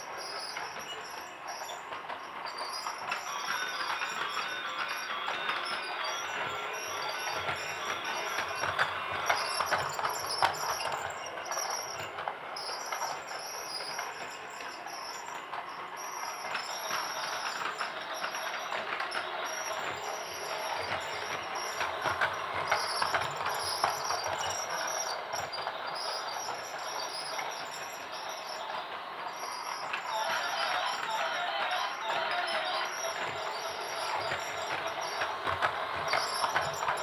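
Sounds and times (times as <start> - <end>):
toy train clattering: 0.0 - 37.0.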